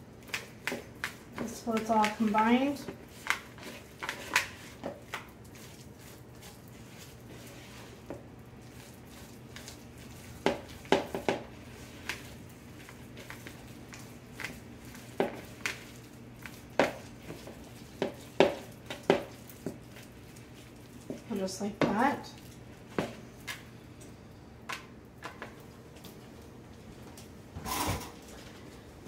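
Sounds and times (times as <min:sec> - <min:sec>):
spoon stirring dough in bowl: 0:00.1 - 0:23.7.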